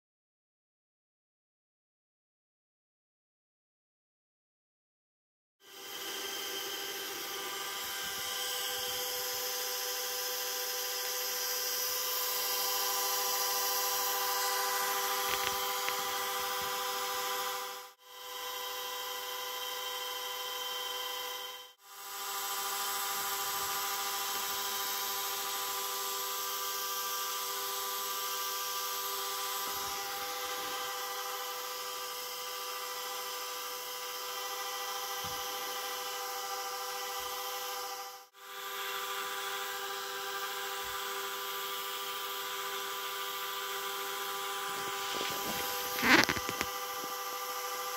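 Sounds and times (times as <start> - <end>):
gyro motor hum over hiss: 5.7 - 47.9.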